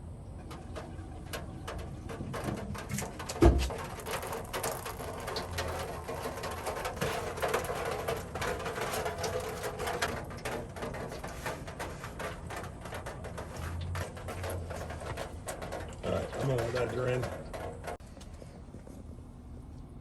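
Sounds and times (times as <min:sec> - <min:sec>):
fuel trickling and gurgling into container: 0:00.0 - 0:19.6.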